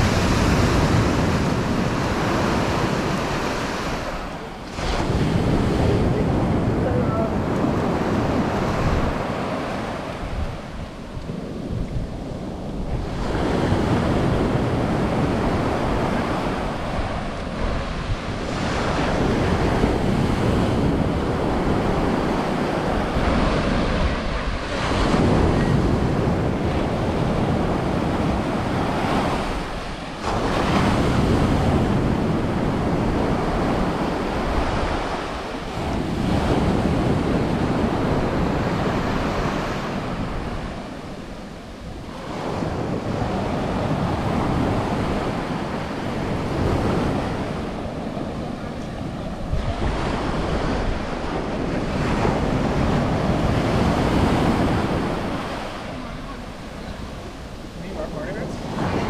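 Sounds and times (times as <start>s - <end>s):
waves breaking on beach: 0.0s - 59.0s
wind on microphone: 0.0s - 59.0s.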